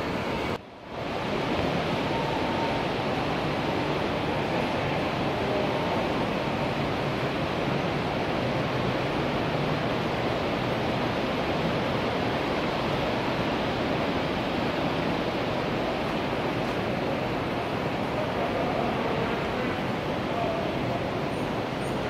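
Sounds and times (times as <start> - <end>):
model trains rushing rumble: 0.0 - 22.0.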